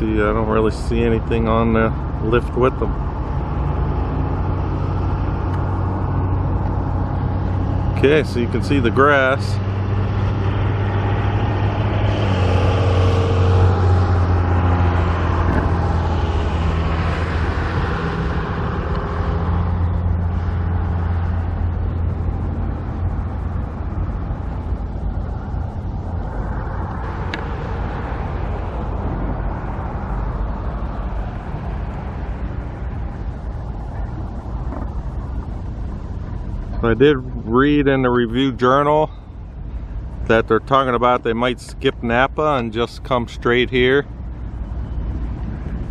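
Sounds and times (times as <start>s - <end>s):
road traffic noise: 0.0s - 45.9s
vehicle engine humming: 0.0s - 45.9s.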